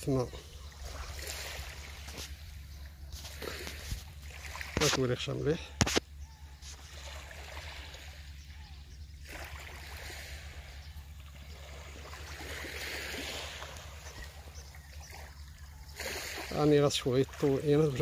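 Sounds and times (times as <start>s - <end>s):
steady low rumble: 0.0s - 16.0s
small waves lapping at shore: 0.0s - 18.0s.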